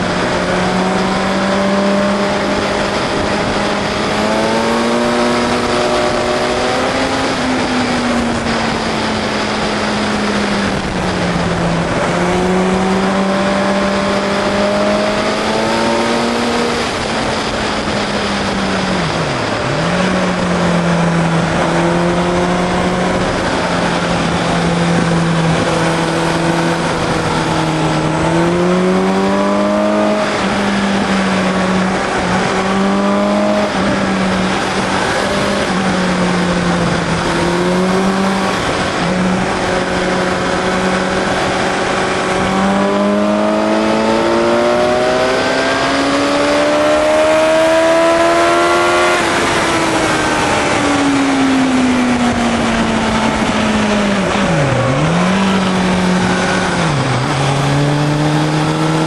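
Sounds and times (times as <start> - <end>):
motorcycle engine revving: 0.0 - 59.0
wind rush over microphone: 0.0 - 59.0.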